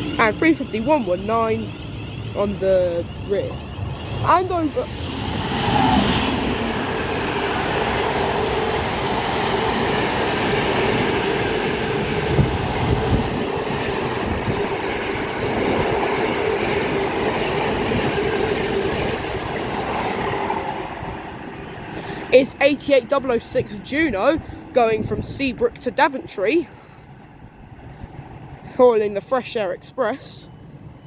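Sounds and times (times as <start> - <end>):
freight train wheels on rail: 0.0 - 31.0.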